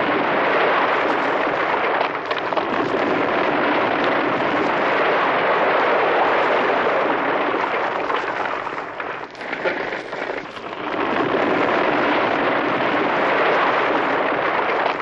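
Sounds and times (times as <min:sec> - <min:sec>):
avalanche rushing noise: 0:00.0 - 0:15.0.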